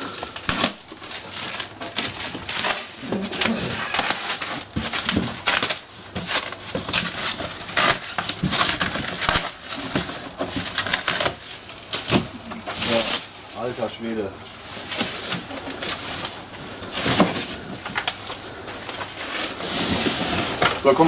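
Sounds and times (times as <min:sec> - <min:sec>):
plastic wrap tearing and crackling: 0:00.0 - 0:21.0.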